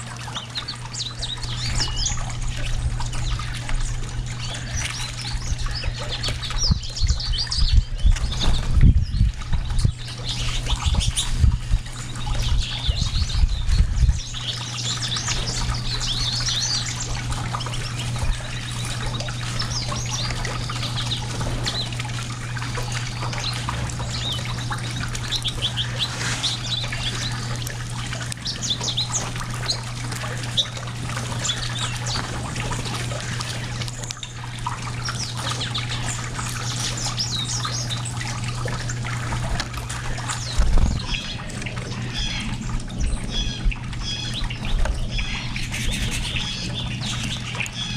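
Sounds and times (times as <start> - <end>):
songbirds chirping: 0.0 - 47.9
steady low hum: 0.0 - 47.9.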